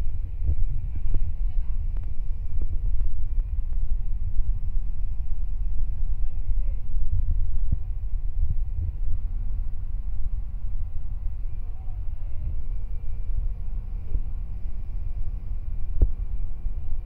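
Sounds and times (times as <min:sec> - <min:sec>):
crane engine rumbling: 0:00.0 - 0:17.0
steady hum: 0:00.0 - 0:17.0.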